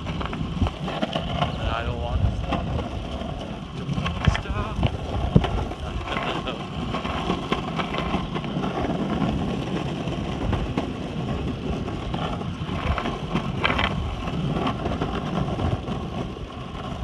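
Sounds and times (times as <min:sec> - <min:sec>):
skateboard wheels rolling on concrete: 0:00.0 - 0:17.0
wind buffeting microphone: 0:00.0 - 0:17.0.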